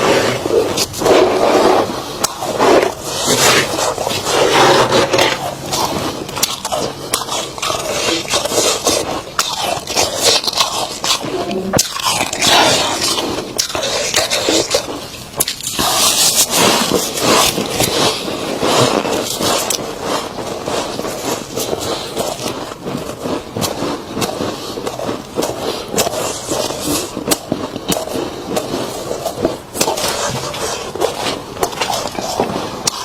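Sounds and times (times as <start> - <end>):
freezer frost crunching and scraping: 0.0 - 33.0.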